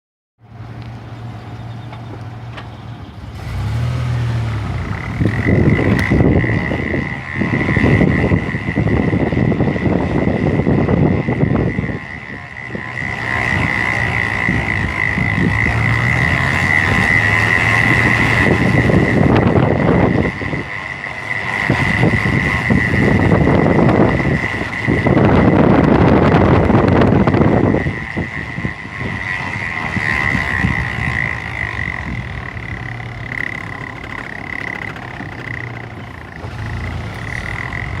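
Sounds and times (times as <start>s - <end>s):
engine and road noise: 0.4s - 38.0s
high-pitched whine: 0.6s - 38.0s.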